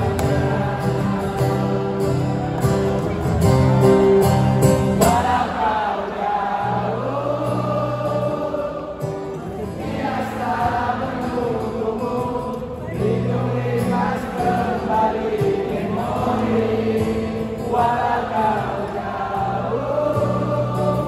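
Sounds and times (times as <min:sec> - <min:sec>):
acoustic guitar: 0:00.0 - 0:21.0
crowd singing along: 0:00.0 - 0:21.0.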